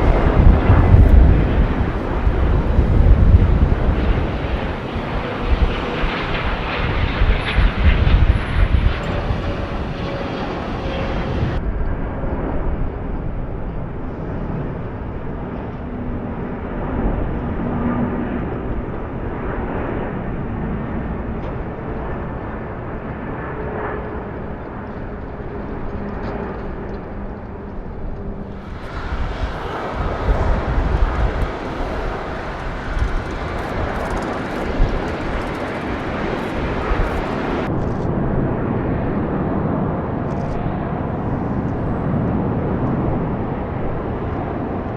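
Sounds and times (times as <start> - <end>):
jet engines rumbling: 0.0 - 37.8.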